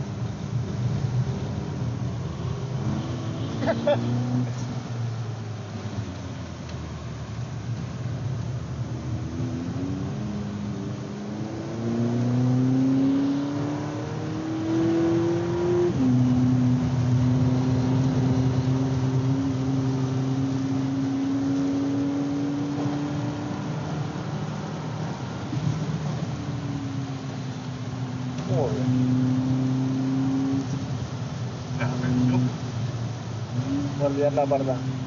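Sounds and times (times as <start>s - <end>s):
car engine revving: 0.0s - 35.0s
tyre and road noise: 0.0s - 35.0s.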